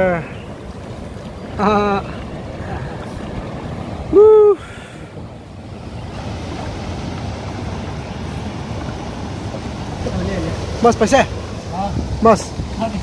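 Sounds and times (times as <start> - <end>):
river water rushing: 0.0 - 13.0
wind on microphone: 0.0 - 13.0.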